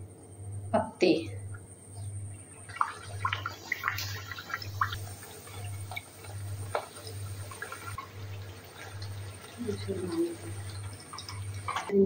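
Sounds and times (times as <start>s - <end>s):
dough deep-frying in hot oil: 2.1s - 12.0s.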